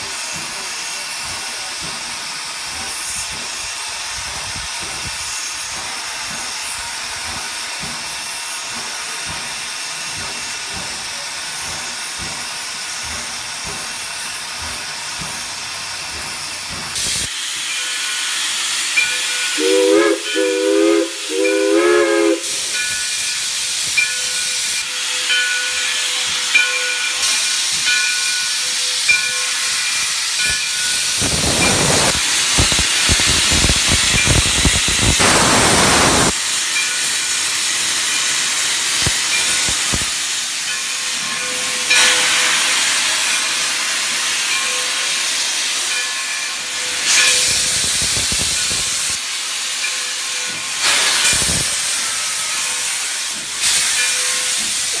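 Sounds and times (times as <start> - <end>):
rush of steam: 0.0 - 55.0
steam blasts: 0.0 - 55.0
steam locomotive hissing: 0.0 - 55.0.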